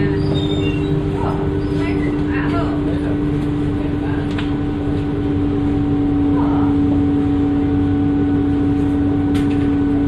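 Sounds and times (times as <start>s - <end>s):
diesel bus engine rumbling: 0.0s - 10.0s.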